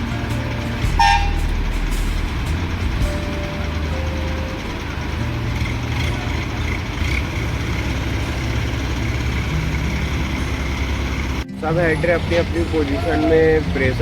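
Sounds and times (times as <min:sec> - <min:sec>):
diesel engines droning: 0:00.0 - 0:14.0.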